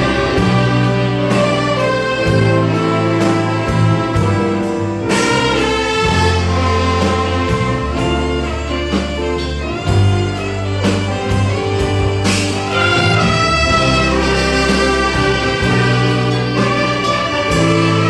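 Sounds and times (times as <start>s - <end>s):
orchestra with brass playing: 0.0s - 18.0s
trumpet and trombone melody: 0.0s - 18.0s.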